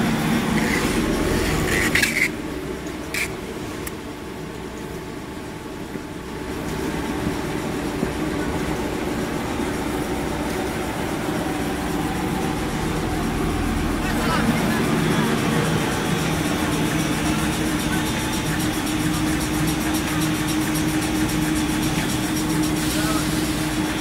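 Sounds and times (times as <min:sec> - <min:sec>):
machinery hum and rumble: 0:00.0 - 0:24.0.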